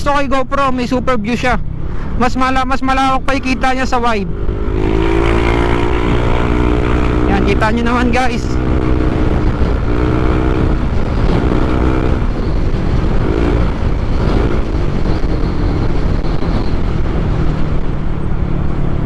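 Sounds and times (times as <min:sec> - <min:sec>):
motorcycle engine and road rumble: 0:00.0 - 0:19.0.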